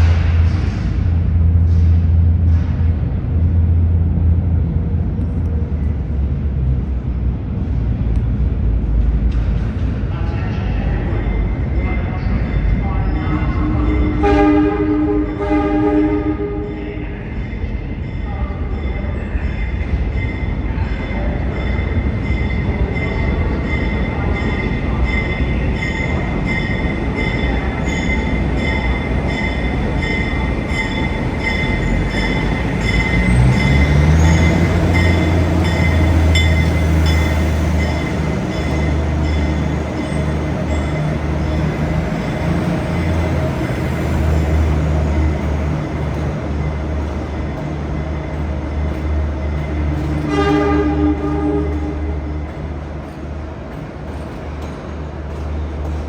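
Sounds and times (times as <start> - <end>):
wheel and rail rumble: 0.0 - 56.0.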